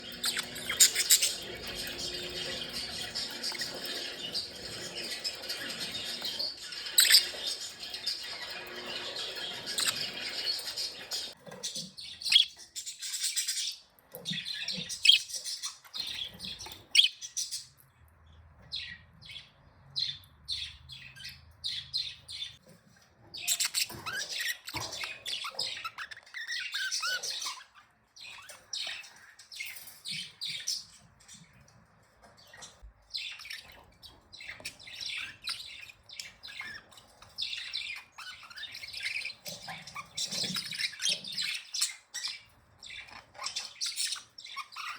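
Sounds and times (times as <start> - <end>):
budgerigars chirping and chattering: 0.0 - 44.9.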